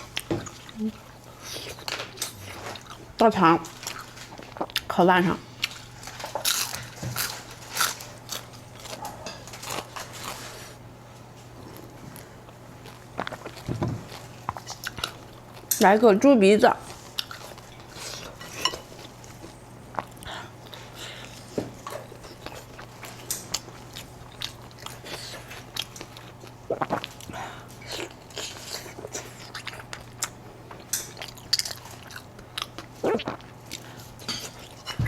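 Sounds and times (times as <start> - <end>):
person chewing crunchy food: 0.0 - 3.1, 3.8 - 4.9, 5.6 - 10.5, 11.7 - 15.7, 16.9 - 35.0.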